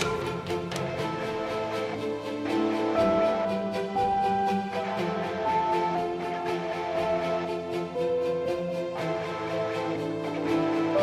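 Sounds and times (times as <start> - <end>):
sustained background music: 0.0 - 11.0.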